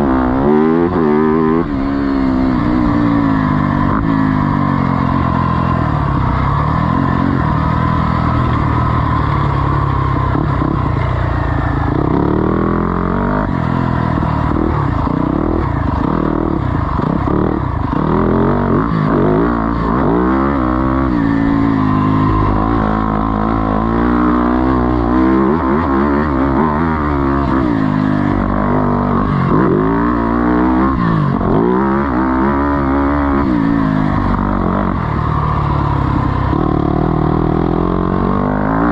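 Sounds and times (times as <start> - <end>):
off-road engine revving: 0.0 - 38.9.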